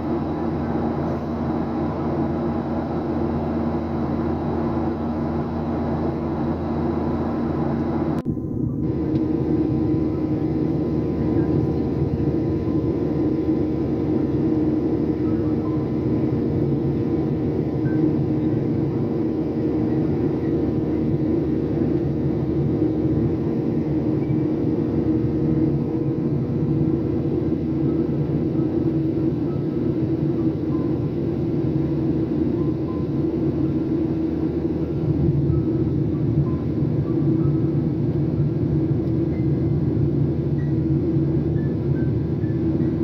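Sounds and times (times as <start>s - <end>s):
airliner engine hum: 0.0s - 43.0s.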